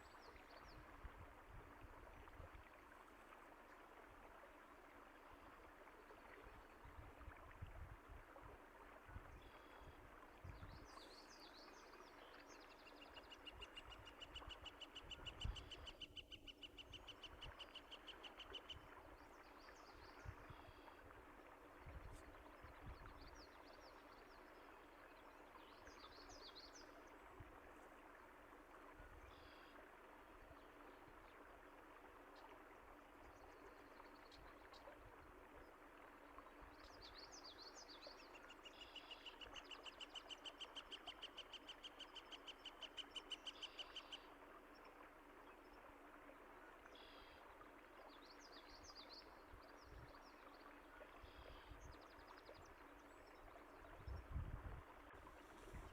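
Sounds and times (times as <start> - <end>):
running water: 0.0 - 55.9.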